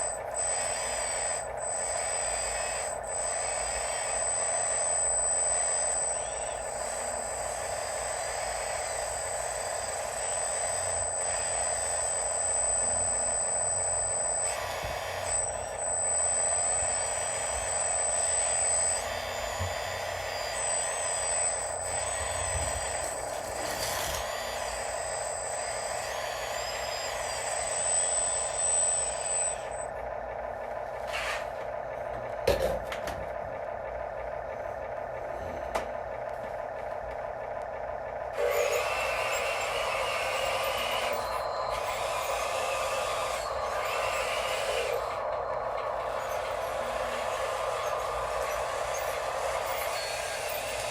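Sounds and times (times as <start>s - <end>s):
electric motor whine: 0.0s - 50.9s.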